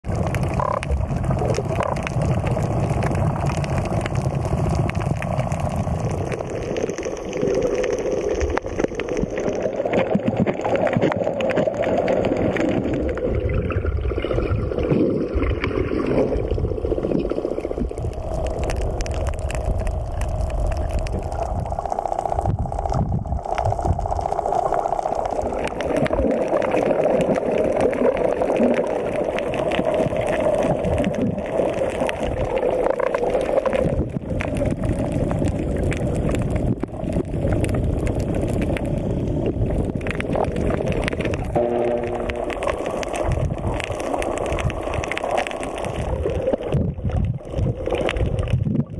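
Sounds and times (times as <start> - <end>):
fine underwater crackles: 0.0 - 48.9
underwater churning and gurgling: 0.0 - 48.9.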